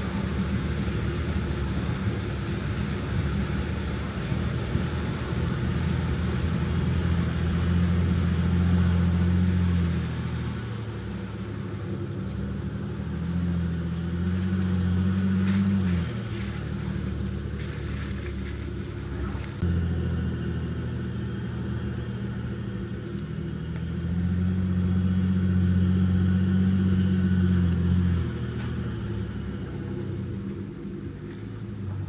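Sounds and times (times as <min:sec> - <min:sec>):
truck engine droning in cab: 0:00.0 - 0:32.0.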